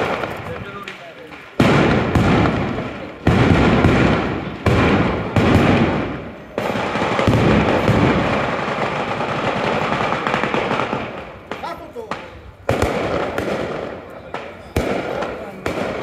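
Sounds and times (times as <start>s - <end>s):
firecrackers banging rapidly: 0.0s - 16.0s.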